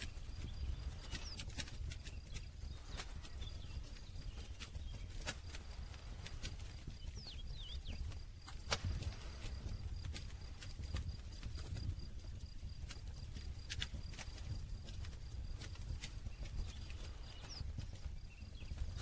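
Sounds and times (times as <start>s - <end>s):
campfire crackling: 0.0s - 19.0s
low rumble of burning fire: 0.0s - 19.0s.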